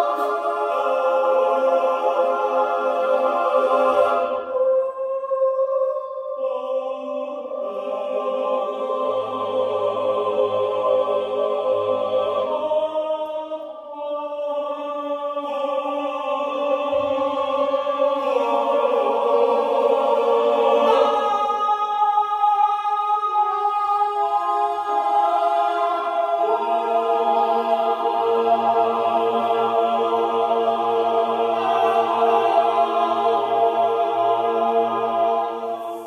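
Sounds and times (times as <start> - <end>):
boys' choir singing: 0.0 - 36.0.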